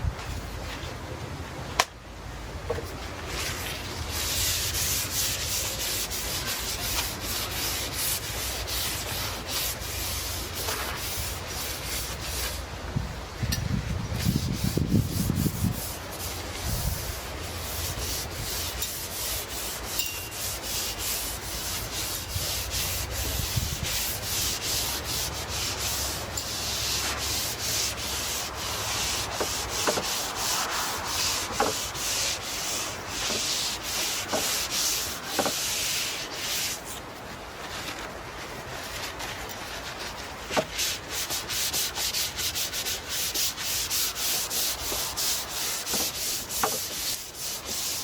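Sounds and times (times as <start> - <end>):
brush strokes on wood: 2.8 - 13.0, 13.6 - 48.0.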